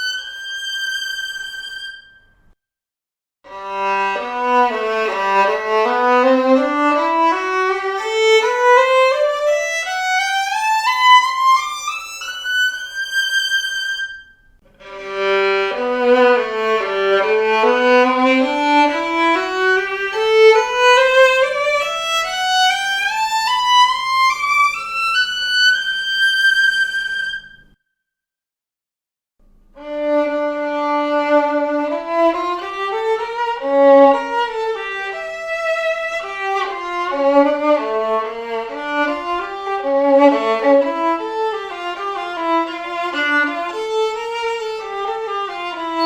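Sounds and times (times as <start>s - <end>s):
violin playing rising scale: 0.0s - 2.2s, 3.5s - 27.6s, 29.8s - 46.0s.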